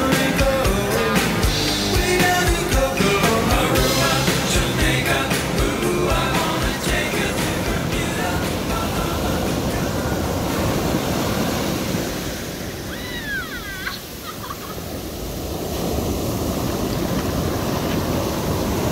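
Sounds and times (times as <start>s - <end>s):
ocean surf breaking: 0.0s - 18.9s.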